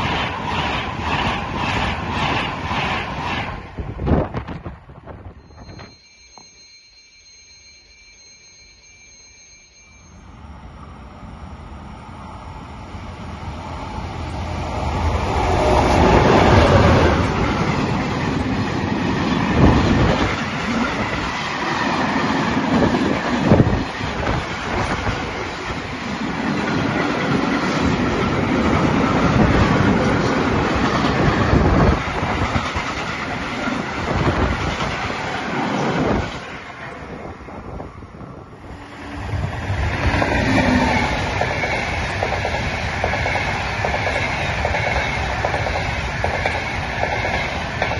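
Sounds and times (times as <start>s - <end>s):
freight train passing: 0.0s - 47.9s
train approaching: 0.0s - 47.9s.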